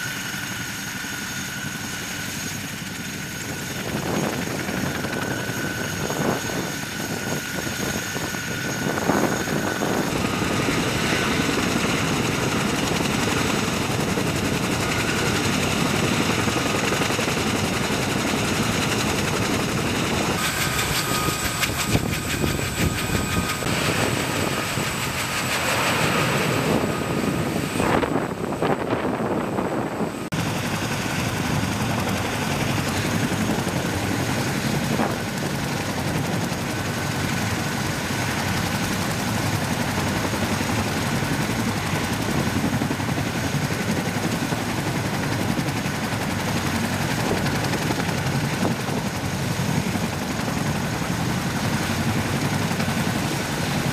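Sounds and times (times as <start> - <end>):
helicopter rotors turning: 0.0 - 53.9
high turbine whine: 0.0 - 53.9.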